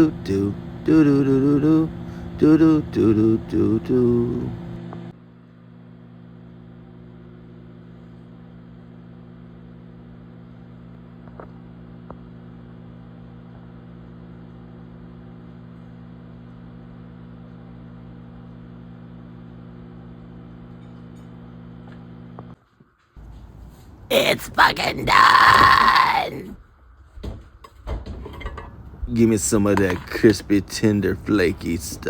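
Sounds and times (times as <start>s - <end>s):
microwave oven humming: 0.0s - 32.0s.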